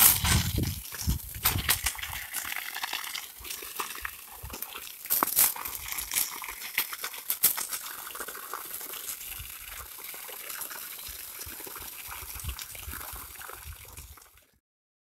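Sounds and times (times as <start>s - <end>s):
water gushing and splashing on ground: 0.0s - 14.6s.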